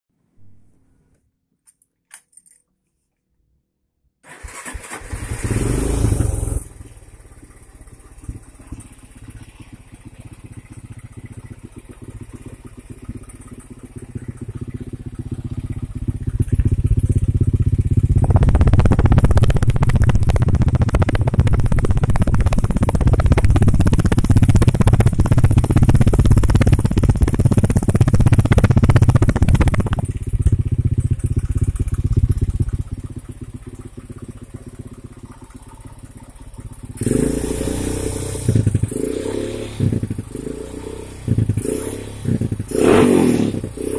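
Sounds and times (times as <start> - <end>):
motorcycle engine revving: 4.3 - 43.9.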